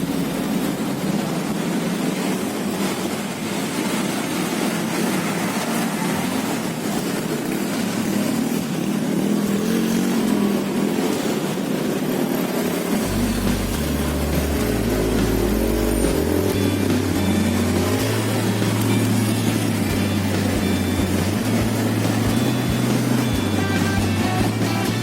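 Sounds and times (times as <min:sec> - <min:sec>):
motorcycle engine: 0:00.0 - 0:25.0
road rush: 0:00.0 - 0:25.0.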